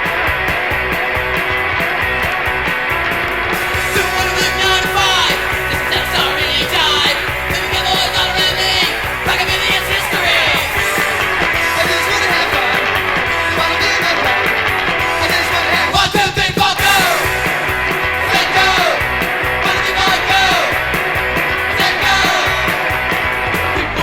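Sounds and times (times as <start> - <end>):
punk rock guitars and drums: 0.0 - 24.0
shouted vocals: 3.6 - 24.0.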